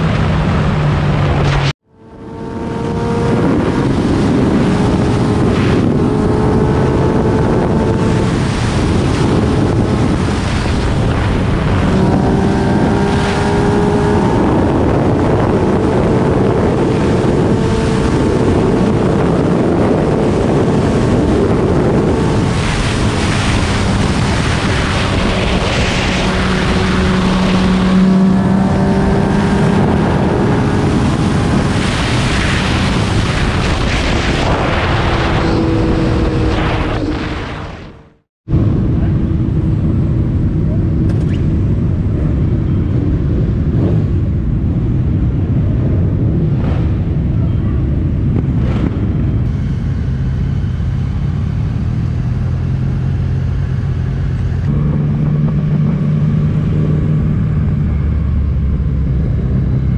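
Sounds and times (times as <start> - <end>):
motorcycle engine at high speed: 0.0 - 59.9
wind rushing on microphone: 0.0 - 59.9.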